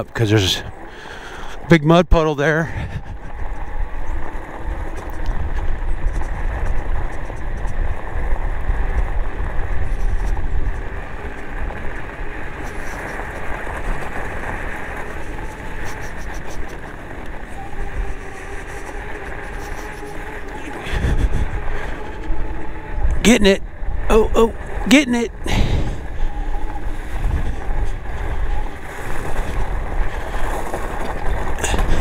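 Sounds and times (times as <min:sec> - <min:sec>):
faint motor whine: 0:00.0 - 0:32.0
tyres on gravel: 0:00.0 - 0:32.0
wind buffeting microphone: 0:00.0 - 0:32.0.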